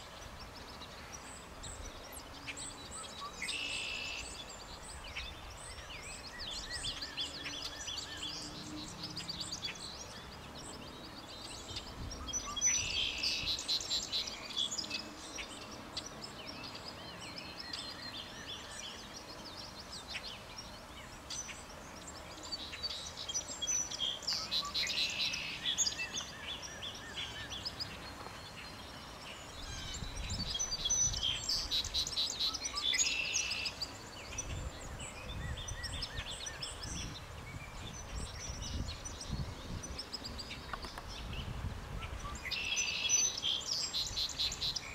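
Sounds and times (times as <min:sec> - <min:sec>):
outdoor background noise: 0:00.0 - 0:44.9
songbirds singing: 0:00.0 - 0:44.9.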